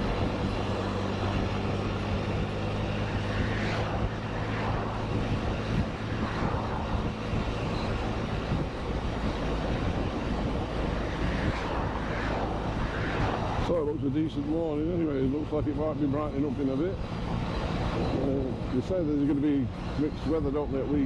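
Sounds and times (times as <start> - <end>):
engine hum: 0.0 - 21.0
wind and road noise: 0.0 - 21.0.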